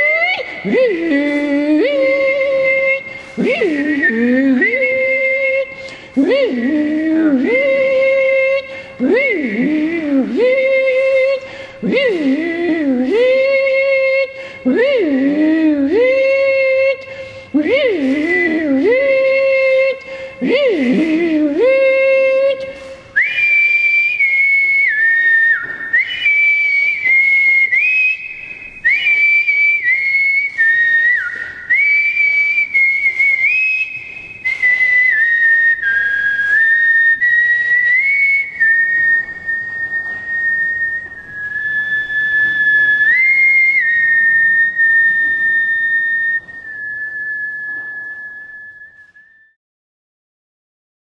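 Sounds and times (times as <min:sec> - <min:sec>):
person whistling a tune: 0:00.0 - 0:49.6.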